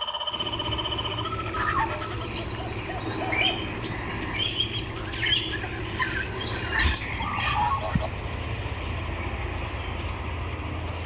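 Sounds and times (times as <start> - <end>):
birds chirping: 0.3 - 11.0
low steady hum: 0.3 - 11.0.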